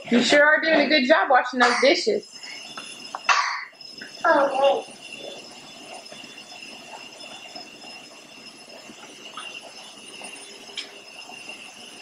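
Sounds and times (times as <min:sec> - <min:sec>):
thin high whine: 0:00.0 - 0:12.0
tape hiss: 0:00.8 - 0:12.0.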